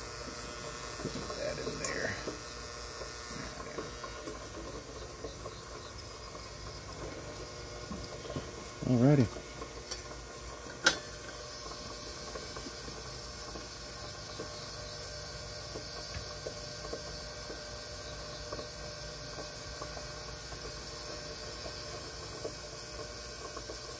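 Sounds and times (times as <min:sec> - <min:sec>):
ultrasonic cleaner hiss: 0:00.0 - 0:23.9.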